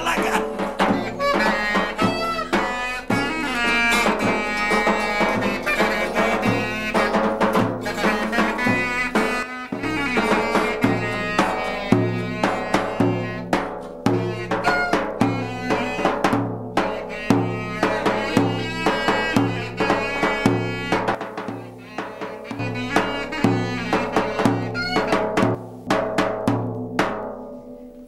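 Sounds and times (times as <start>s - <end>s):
large drum beaten with stick: 0.0s - 27.6s
acoustic guitar playing: 0.0s - 28.0s.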